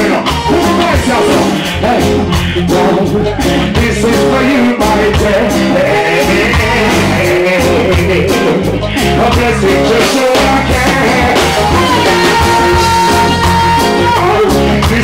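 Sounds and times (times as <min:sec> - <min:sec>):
person singing: 0:00.0 - 0:15.0
reggae band playing: 0:00.0 - 0:15.0.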